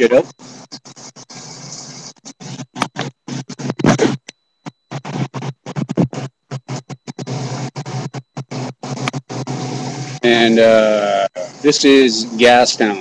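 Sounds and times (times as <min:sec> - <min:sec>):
choppy background noise: 0:00.0 - 0:13.0.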